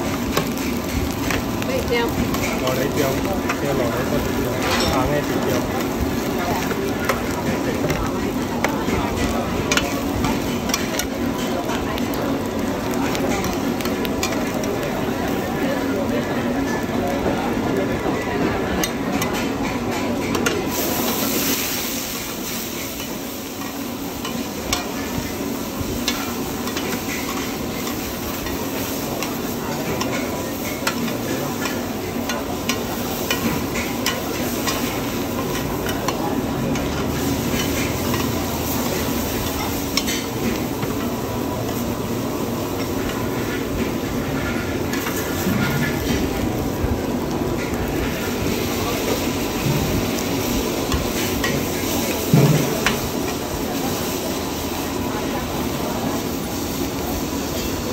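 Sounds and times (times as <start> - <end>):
food sizzling in hot oil: 0.0 - 57.9.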